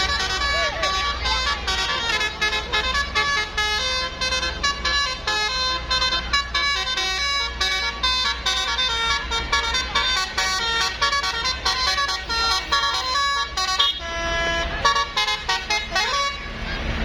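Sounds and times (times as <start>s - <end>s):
musical air horn melody: 0.0s - 16.5s.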